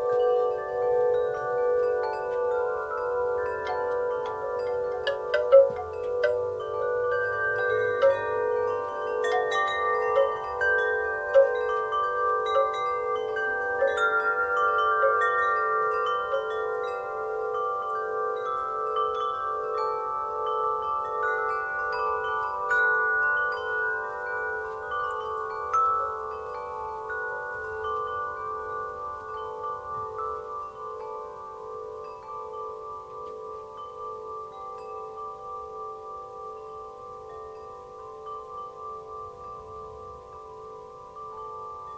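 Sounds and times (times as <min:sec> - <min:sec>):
wind chimes ringing: 0:00.0 - 0:41.9.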